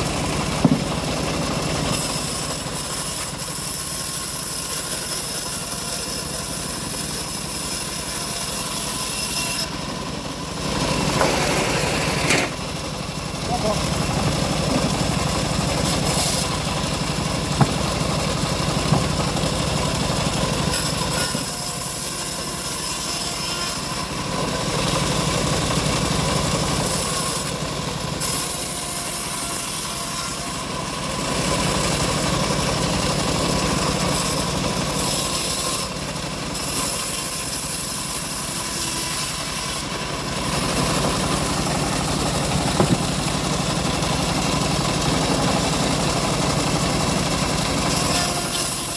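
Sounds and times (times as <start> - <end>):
bandsaw mill engine running: 0.0 - 48.9
saw blade cutting log: 0.0 - 48.9.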